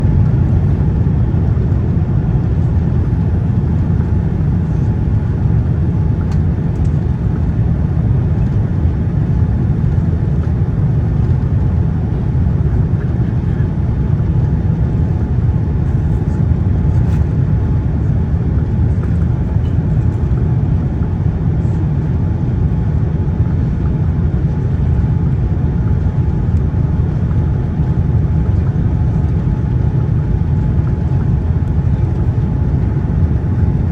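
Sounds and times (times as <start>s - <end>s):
airliner low rumble: 0.0s - 33.9s.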